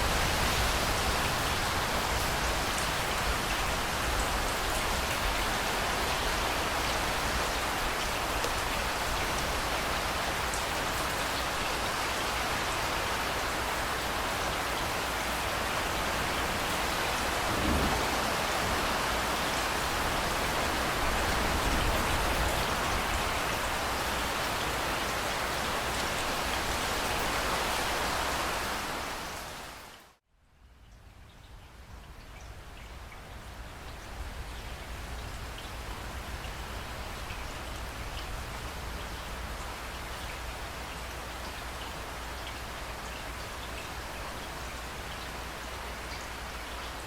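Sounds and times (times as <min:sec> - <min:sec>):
heavy rain: 0:00.0 - 0:30.2, 0:31.7 - 0:47.0.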